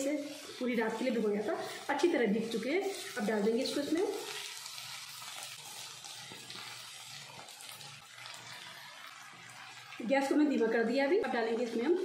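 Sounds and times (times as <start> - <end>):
food frying in ghee: 0.0 - 12.0.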